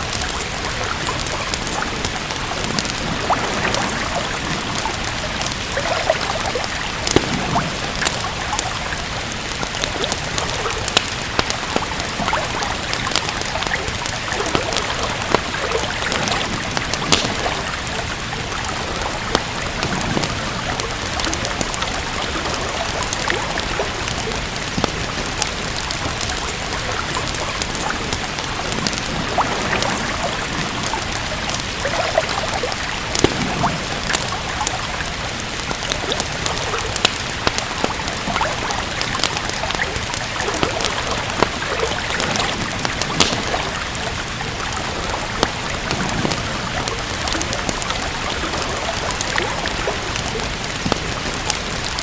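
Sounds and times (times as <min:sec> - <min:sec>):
steady rain: 0:00.0 - 0:52.0
wood fire crackling: 0:00.0 - 0:52.0.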